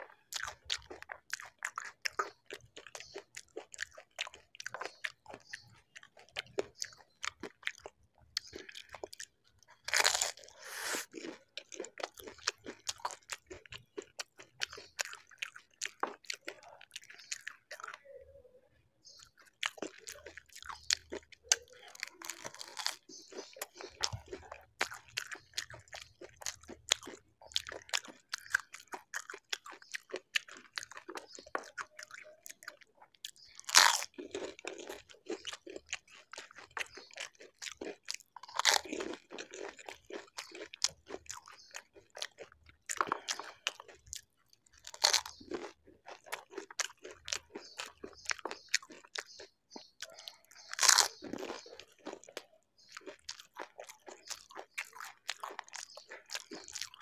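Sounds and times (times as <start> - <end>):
crunchy food chewing: 0.0 - 18.2, 19.0 - 57.0.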